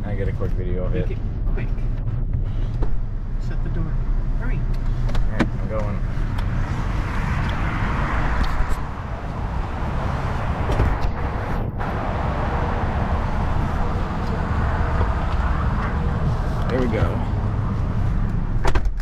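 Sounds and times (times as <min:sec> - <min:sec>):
idling cars rumbling: 0:00.0 - 0:19.0.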